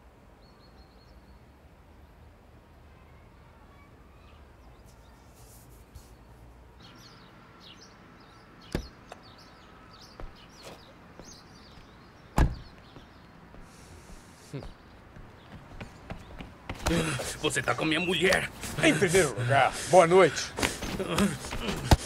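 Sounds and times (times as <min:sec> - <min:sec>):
small birds chirping: 0:03.0 - 0:22.0.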